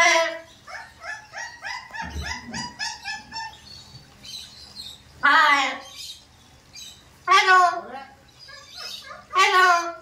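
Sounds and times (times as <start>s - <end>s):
parrot calling: 0.0s - 6.2s, 7.2s - 10.0s.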